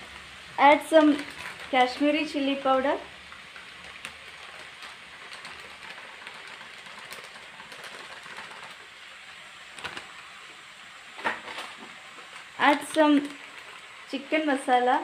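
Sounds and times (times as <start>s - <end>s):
vegetables sizzling in oil: 0.0s - 7.6s, 8.6s - 15.0s.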